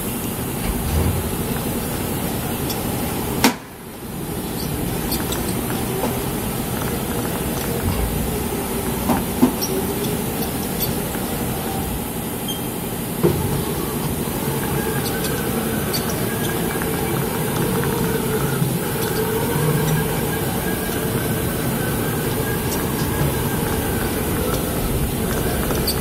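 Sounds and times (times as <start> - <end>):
faint machine whine: 0.0 - 26.0
machining centre humming: 0.0 - 26.0.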